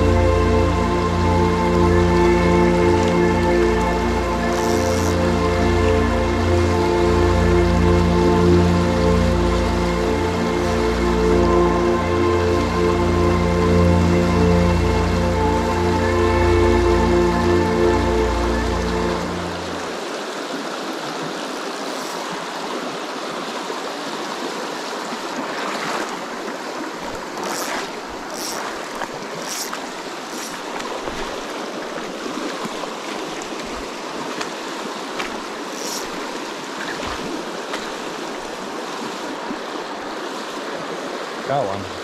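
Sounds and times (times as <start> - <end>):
stream rushing over stones: 0.0 - 42.0.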